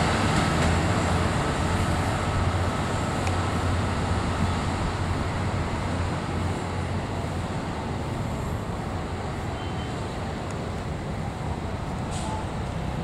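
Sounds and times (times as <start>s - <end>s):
diesel train engine rumbling: 0.0s - 13.0s.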